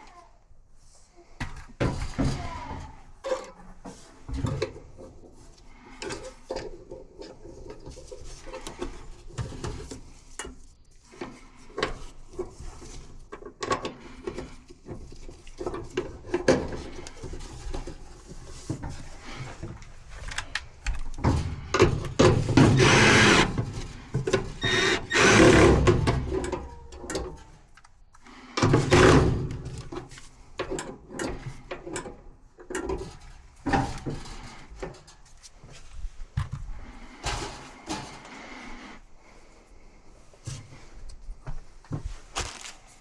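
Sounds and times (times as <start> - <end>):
clatter of parts and tools: 1.4 - 38.4.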